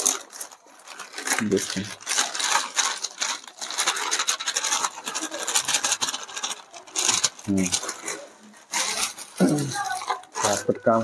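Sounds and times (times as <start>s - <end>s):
plastic packets rustling and crinkling: 0.0s - 11.0s.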